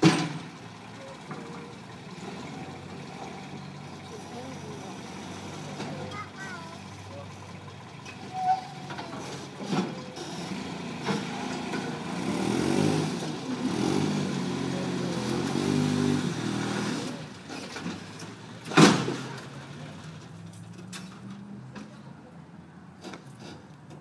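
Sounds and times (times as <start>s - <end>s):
forklift engine revving: 0.0s - 20.2s.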